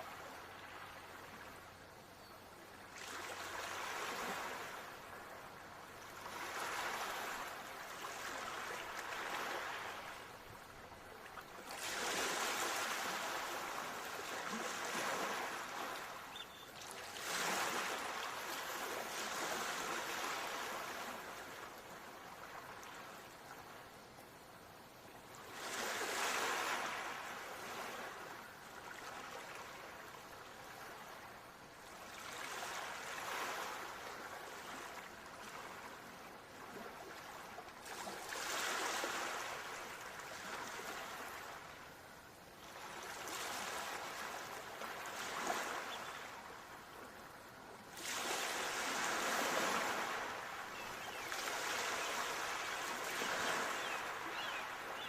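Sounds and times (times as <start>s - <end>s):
ocean waves breaking on shore: 2.8s - 23.9s, 25.2s - 55.0s.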